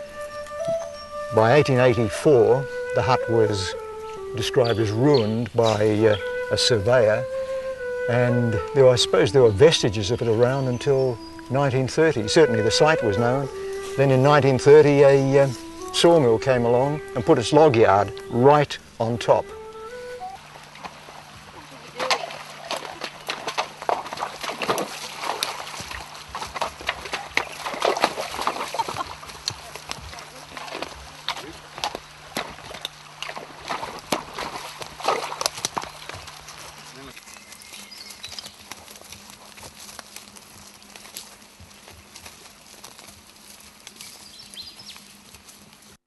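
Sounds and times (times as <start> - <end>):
hooves clopping on stones: 0.0 - 46.0
hooves splashing in water: 0.0 - 46.0.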